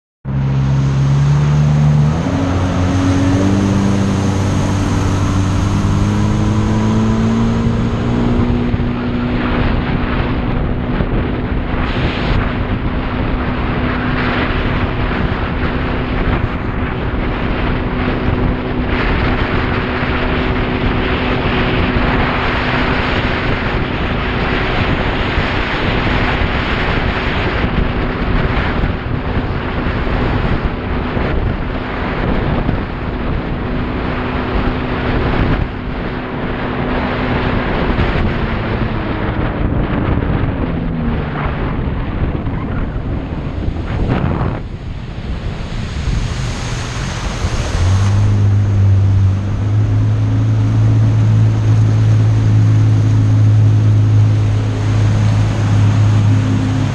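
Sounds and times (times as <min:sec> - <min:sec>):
jet ski engine running: 0:00.3 - 0:56.9
wind buffeting microphone: 0:00.3 - 0:56.9.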